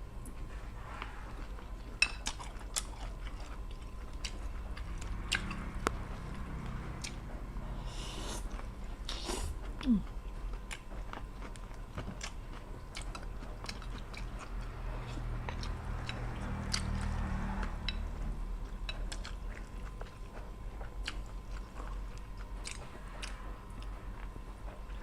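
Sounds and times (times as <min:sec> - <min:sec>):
person chewing food: 0:00.3 - 0:25.0.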